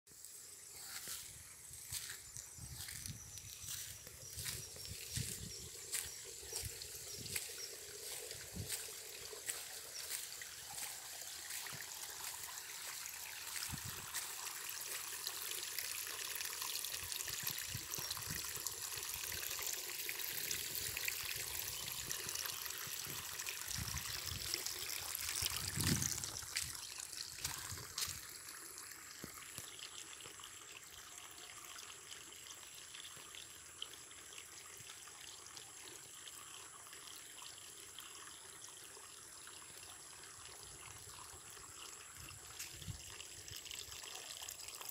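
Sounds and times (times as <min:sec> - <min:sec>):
water trickling: 0:00.1 - 0:44.9.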